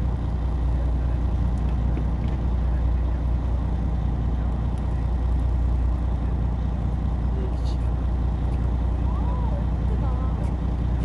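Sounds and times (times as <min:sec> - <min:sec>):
boat engine droning: 0:00.0 - 0:11.0
water against hull: 0:00.0 - 0:11.0.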